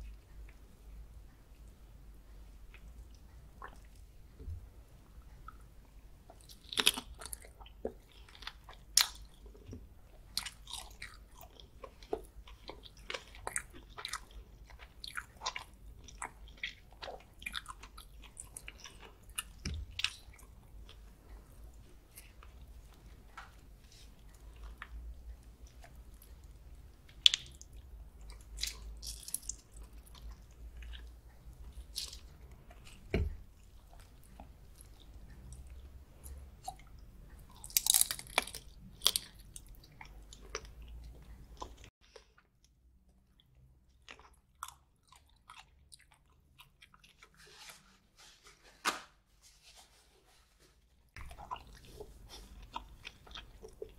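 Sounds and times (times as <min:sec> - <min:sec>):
chewing with crunches: 0:06.3 - 0:47.8, 0:51.1 - 0:53.9.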